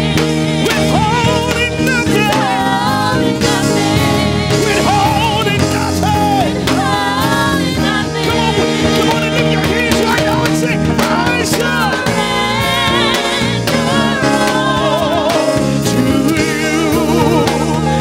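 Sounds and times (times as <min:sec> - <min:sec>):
band playing sustained chords: 0:00.0 - 0:18.0
person singing: 0:00.0 - 0:18.0.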